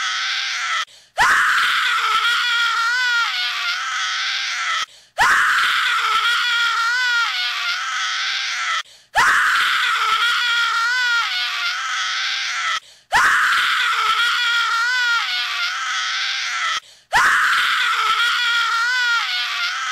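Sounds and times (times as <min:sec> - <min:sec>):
high wailing cry: 0:00.0 - 0:19.9.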